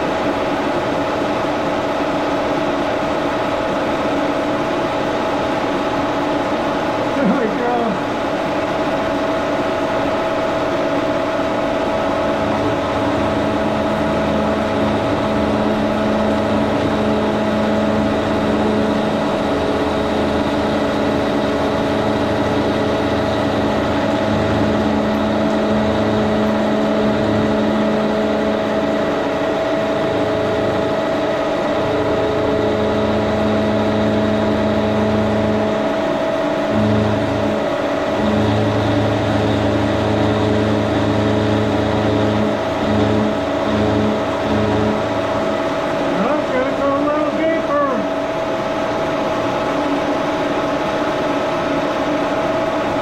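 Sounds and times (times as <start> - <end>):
milling machine whine: 0.0 - 53.0.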